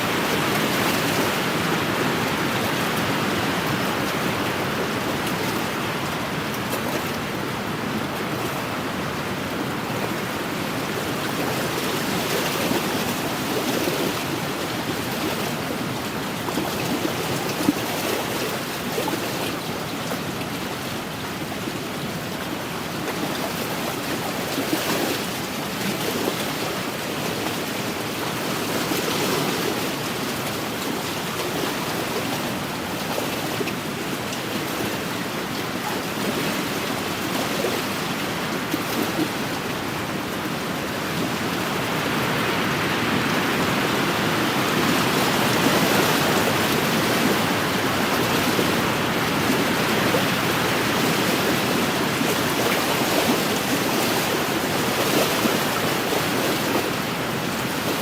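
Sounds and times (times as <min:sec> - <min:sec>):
waves lapping on shore: 0:00.0 - 0:58.0.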